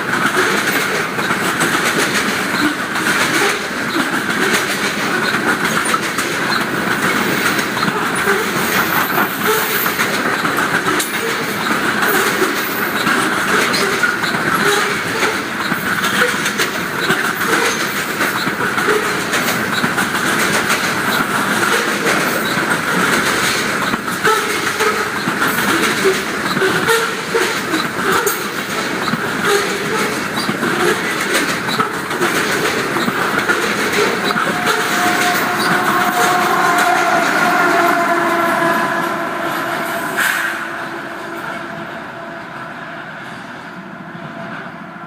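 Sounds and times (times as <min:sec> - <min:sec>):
wheels clicking over rail joints: 0:00.0 - 0:40.8
freight train rumbling past: 0:00.0 - 0:45.0.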